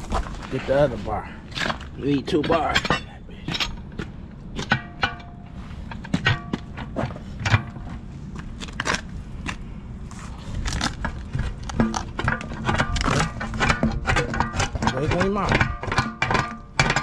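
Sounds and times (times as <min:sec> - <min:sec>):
tire bars clanking on wheel rim: 0:00.1 - 0:08.0, 0:11.0 - 0:17.0.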